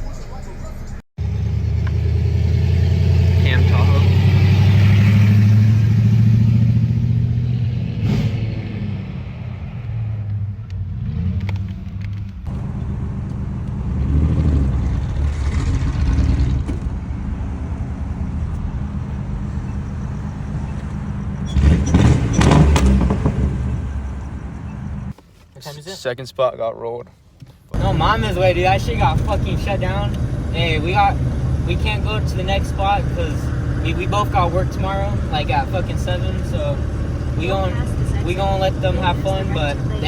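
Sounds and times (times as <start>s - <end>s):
engine rumbling and revving: 0.0s - 25.2s, 27.7s - 40.0s.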